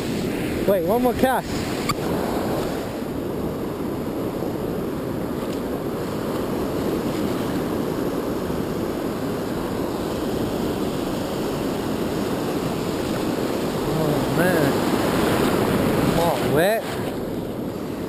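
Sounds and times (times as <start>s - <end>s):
ocean surf rushing: 0.0s - 18.0s
wind rumble on microphone: 0.0s - 18.0s.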